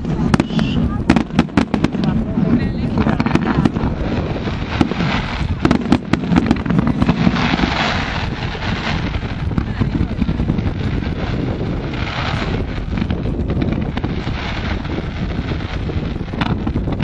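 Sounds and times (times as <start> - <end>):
firework bangs and crackles: 0.0 - 17.0
firework rushing hiss: 0.0 - 17.0
low rumble: 0.0 - 17.0.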